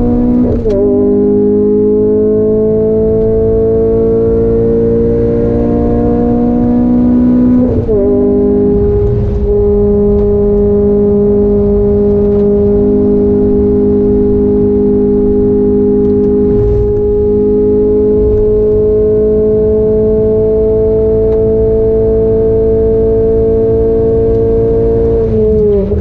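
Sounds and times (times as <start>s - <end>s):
car engine revving under throttle: 0.0s - 26.0s.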